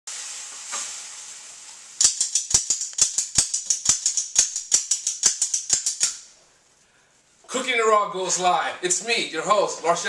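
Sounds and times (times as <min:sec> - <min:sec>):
steady hiss: 0:00.1 - 0:10.0.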